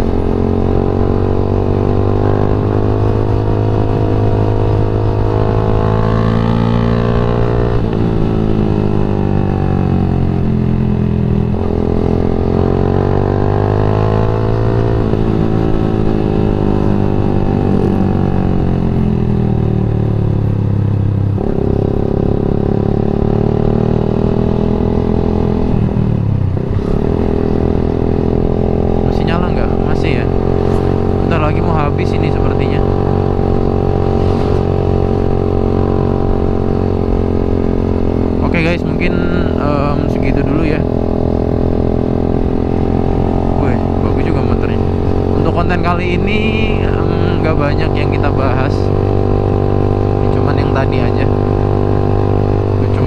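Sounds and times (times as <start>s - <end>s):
motorcycle engine revving through gears: 0.0s - 53.0s.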